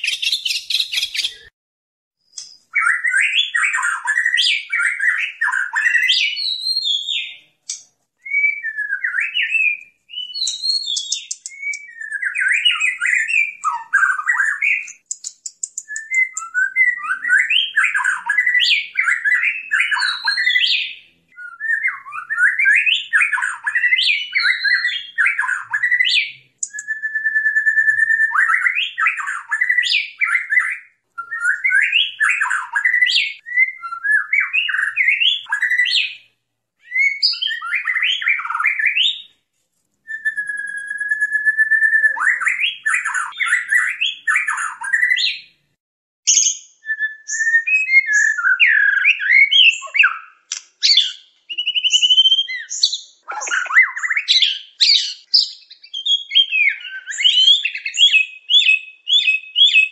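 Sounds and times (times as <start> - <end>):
bird singing whistled notes: 0.0 - 1.5, 2.2 - 39.3, 40.1 - 45.6, 46.3 - 59.9.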